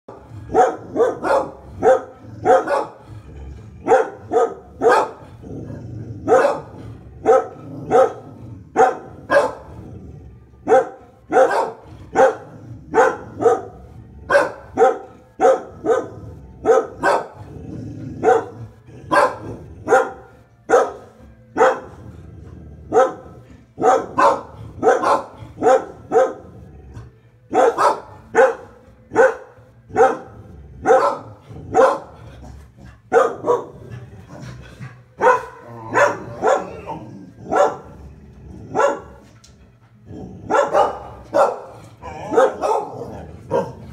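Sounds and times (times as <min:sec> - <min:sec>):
dogs barking: 0:00.1 - 0:43.9.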